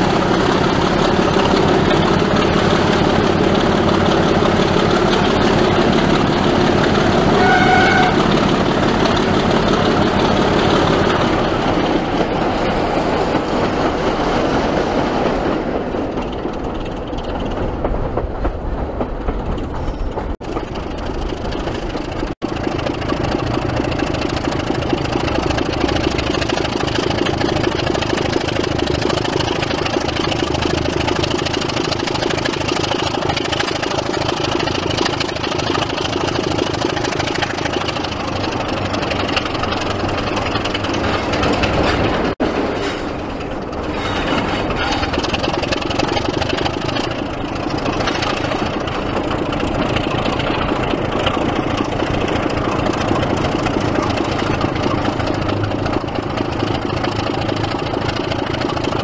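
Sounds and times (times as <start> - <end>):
diesel locomotive running: 0.0 - 59.0.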